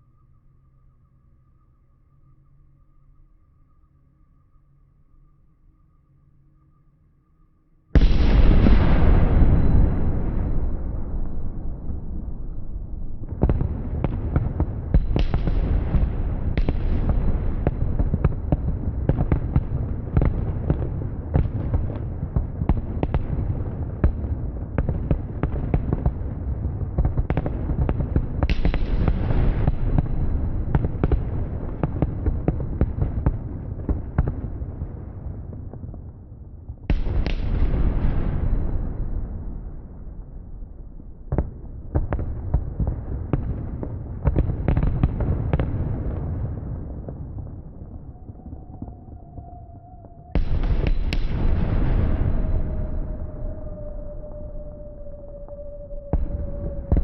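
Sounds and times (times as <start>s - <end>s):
fireworks booming and crackling: 8.0s - 57.0s.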